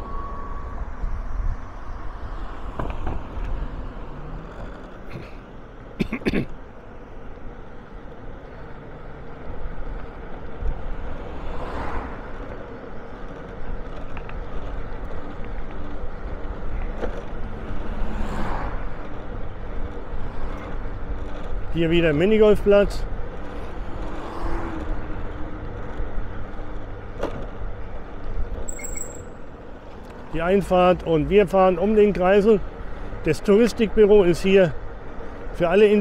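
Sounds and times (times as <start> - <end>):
vehicle engine and road rumble: 0.0 - 36.0
vehicles passing: 0.0 - 36.0.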